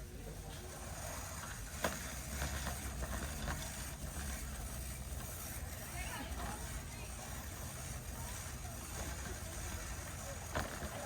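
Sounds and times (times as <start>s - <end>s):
shopping cart rumbling: 0.0s - 11.0s
cart clicks and rattles: 0.5s - 11.0s.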